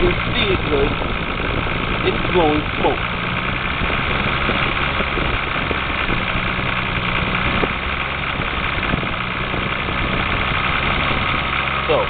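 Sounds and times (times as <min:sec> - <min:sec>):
car engine idling with knock: 0:00.0 - 0:12.0.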